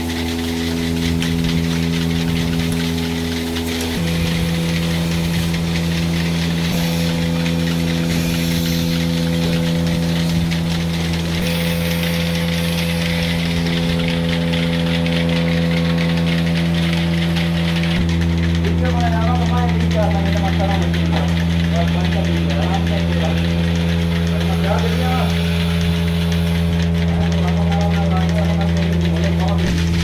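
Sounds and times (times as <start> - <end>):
milking machine motor hum: 0.0 - 30.0.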